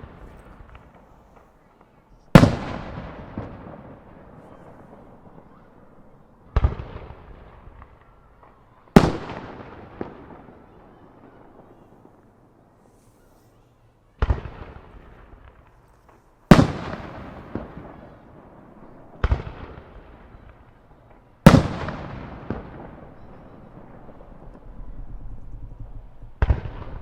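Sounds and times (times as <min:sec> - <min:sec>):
firework booms with echo: 0:00.0 - 0:12.2, 0:14.2 - 0:15.8, 0:16.5 - 0:27.0.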